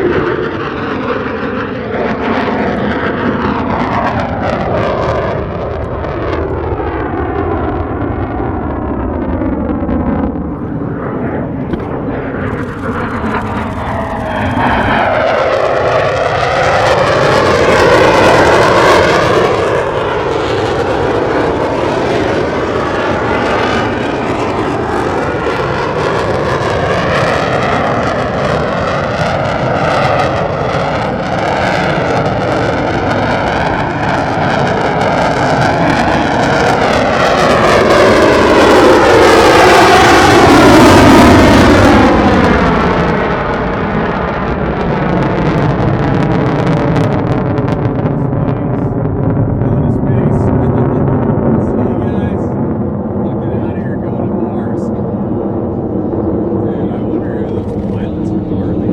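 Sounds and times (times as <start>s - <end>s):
jet engine roaring past: 0.0s - 58.9s.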